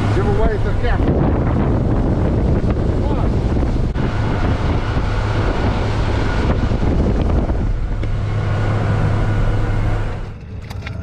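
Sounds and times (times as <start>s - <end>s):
loud rushing noise: 0.0s - 10.4s
steady motor hum: 0.0s - 11.0s.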